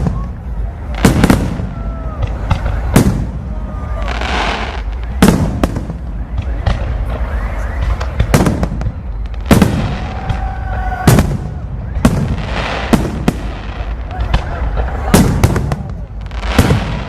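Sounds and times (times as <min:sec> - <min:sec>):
firework whistling: 0:00.0 - 0:17.0
fireworks bangs: 0:00.0 - 0:17.0.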